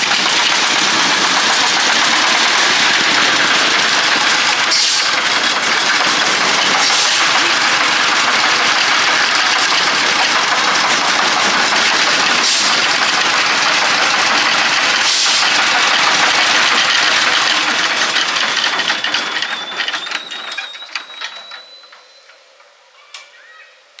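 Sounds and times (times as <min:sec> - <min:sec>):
truck engine ticking: 0:00.0 - 0:21.7.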